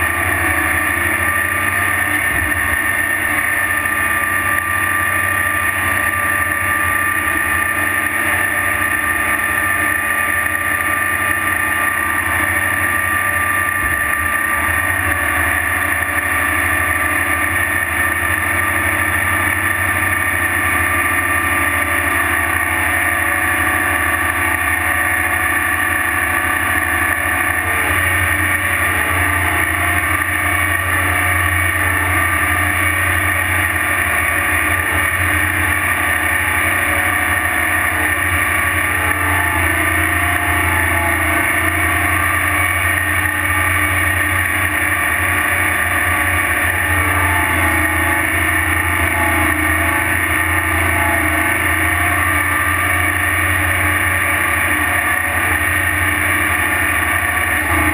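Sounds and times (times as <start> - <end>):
deep diesel engine drone: 0.0 - 57.9
steady high whine: 0.0 - 57.9.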